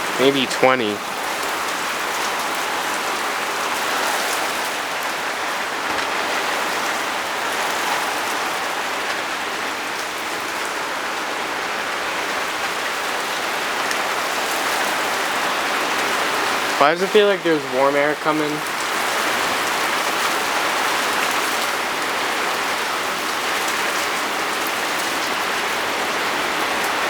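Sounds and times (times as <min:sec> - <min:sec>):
steady rain hiss: 0:00.0 - 0:27.0
ticks of raindrops: 0:00.0 - 0:27.0.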